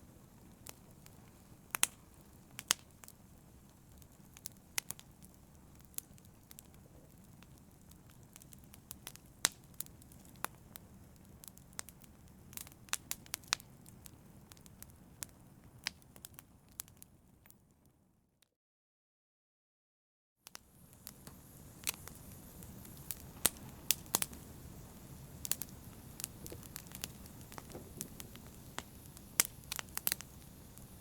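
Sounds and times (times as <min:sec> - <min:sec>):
low rumble of flame: 0:00.0 - 0:17.5, 0:20.5 - 0:31.0
wood fire crackling and popping: 0:00.0 - 0:17.6, 0:20.5 - 0:31.0.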